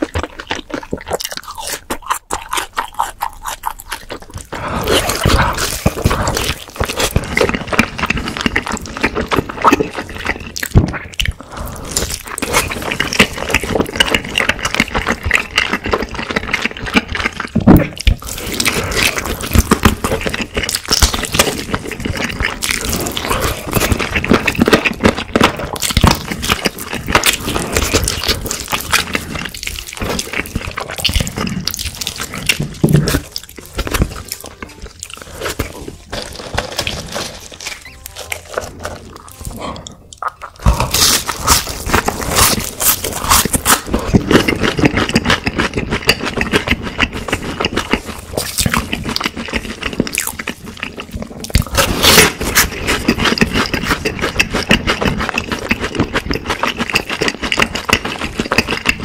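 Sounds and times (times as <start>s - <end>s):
person chewing fried chicken: 0.0s - 59.0s
wet mouth sounds: 0.0s - 59.0s.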